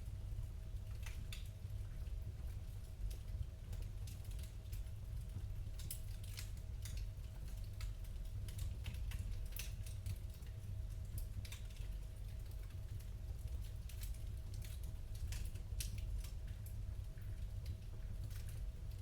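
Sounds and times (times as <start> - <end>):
wood fire crackling: 0.1 - 19.0.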